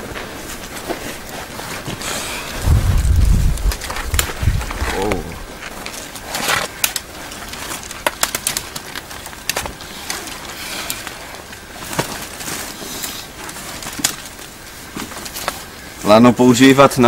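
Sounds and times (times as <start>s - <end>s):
twigs cracking and snapping: 0.8s - 16.0s.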